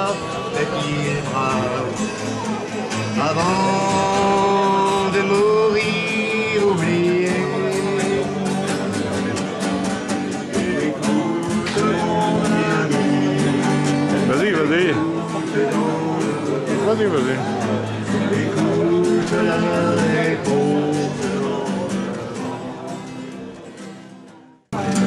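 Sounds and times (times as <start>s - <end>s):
voices singing held notes: 0.0s - 23.7s
strummed guitar: 0.0s - 25.0s.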